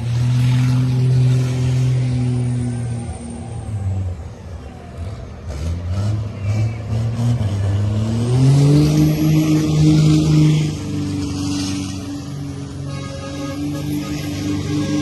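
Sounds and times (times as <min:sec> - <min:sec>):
truck diesel engines accelerating: 0:00.0 - 0:15.0.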